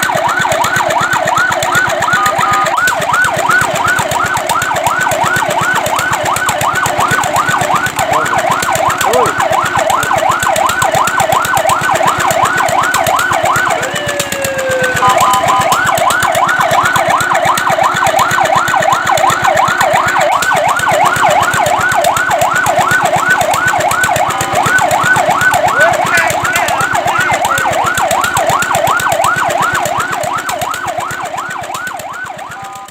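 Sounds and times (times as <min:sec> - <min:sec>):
fire truck siren yelping: 0:00.0 - 0:32.9.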